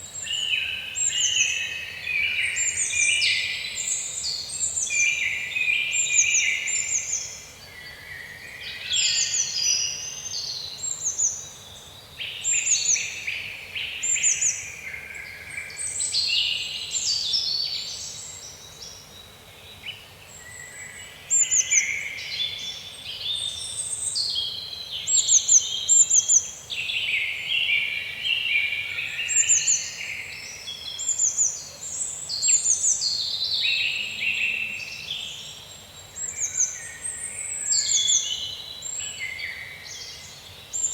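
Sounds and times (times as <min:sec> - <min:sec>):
faint steady hiss: 0:00.0 - 0:40.9
songbirds chirping and trilling: 0:00.0 - 0:40.9.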